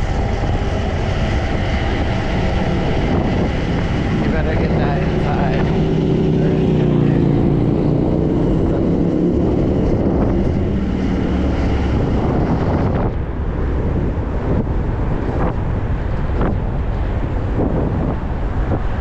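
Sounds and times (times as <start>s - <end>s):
vehicle engine hum: 0.0s - 19.0s
wind rushing on microphone: 0.0s - 19.0s.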